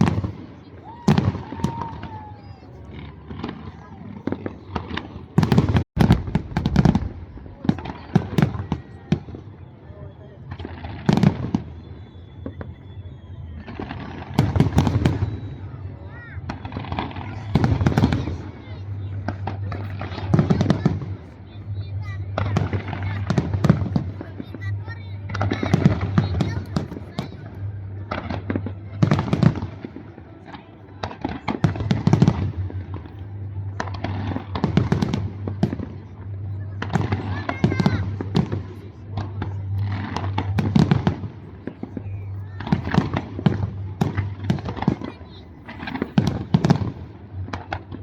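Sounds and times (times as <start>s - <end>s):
fireworks bangs: 0.0s - 9.8s, 10.4s - 48.0s.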